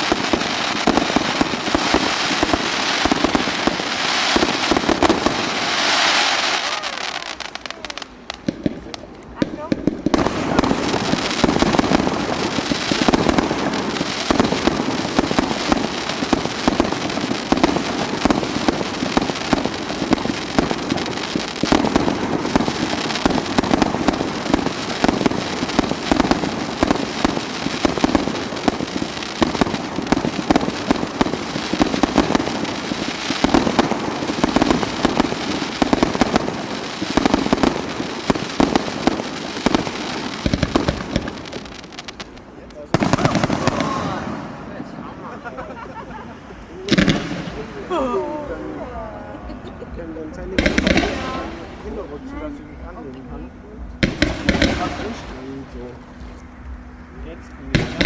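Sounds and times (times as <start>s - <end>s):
fireworks bangs and crackling: 0.0s - 49.0s, 49.8s - 58.0s.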